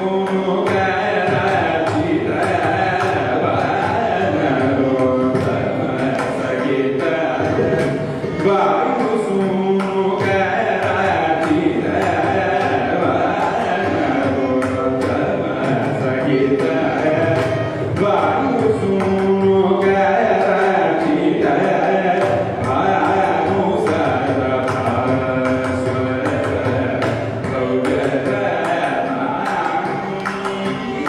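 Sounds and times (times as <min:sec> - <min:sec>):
man singing: 0:00.0 - 0:31.0
violin accompaniment: 0:00.0 - 0:31.0.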